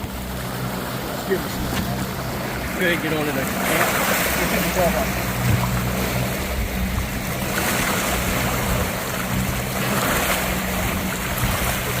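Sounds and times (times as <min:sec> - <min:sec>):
boat engine running: 0:00.0 - 0:12.0
water rushing: 0:00.0 - 0:12.0
wind: 0:00.0 - 0:12.0.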